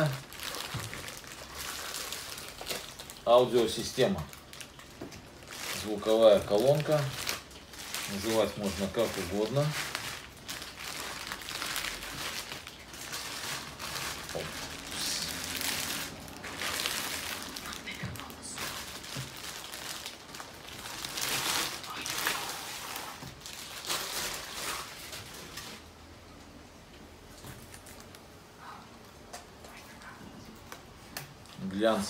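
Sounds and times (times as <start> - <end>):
plastic wrap crinkling: 0.0 - 26.1, 27.3 - 28.5.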